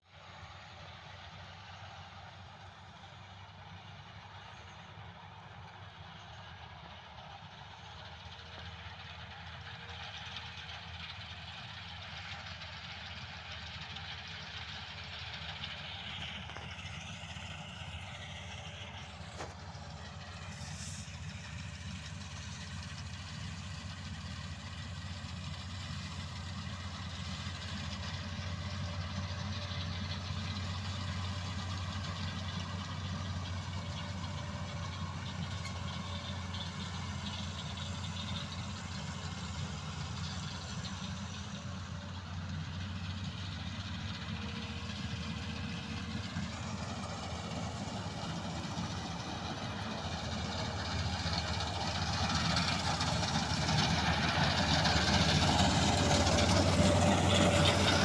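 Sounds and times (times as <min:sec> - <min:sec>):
combine harvester engine drone: 0:00.1 - 0:58.0.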